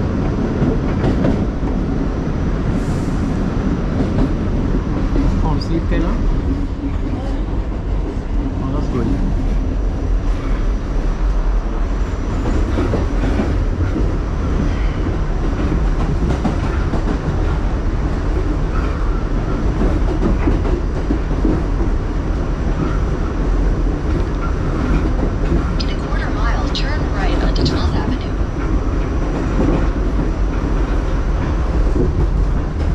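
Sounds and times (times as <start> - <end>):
subway car rumble: 0.0 - 32.9.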